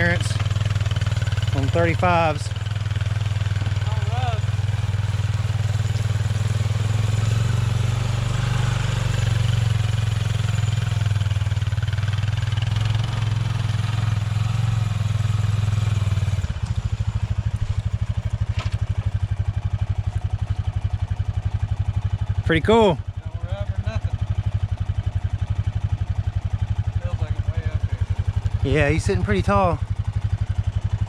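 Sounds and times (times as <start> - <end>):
engine running: 0.0 - 31.0.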